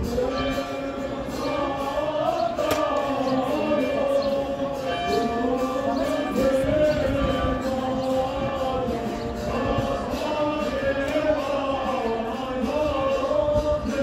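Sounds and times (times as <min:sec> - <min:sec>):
group singing long notes: 0:00.0 - 0:14.0.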